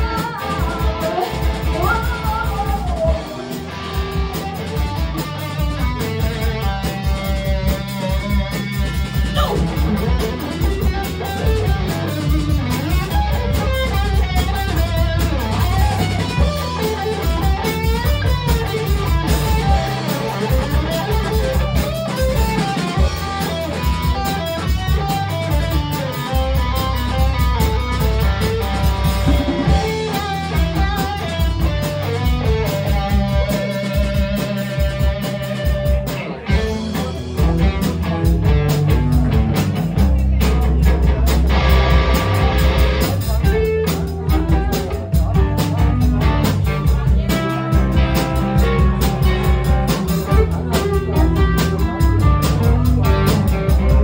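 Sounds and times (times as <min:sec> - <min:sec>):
bass guitar: 0:00.0 - 0:54.0
drums: 0:00.0 - 0:54.0
electric guitar: 0:00.0 - 0:54.0.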